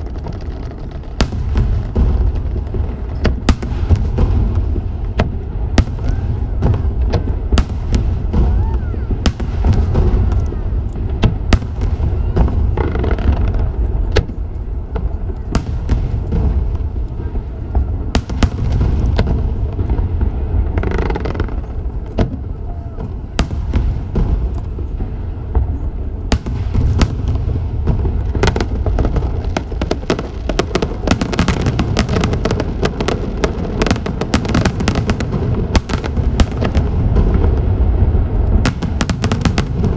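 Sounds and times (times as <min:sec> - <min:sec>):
fireworks bangs: 0:00.0 - 0:39.9
low rumble: 0:00.0 - 0:39.9
rapid fireworks crackling: 0:00.0 - 0:39.9.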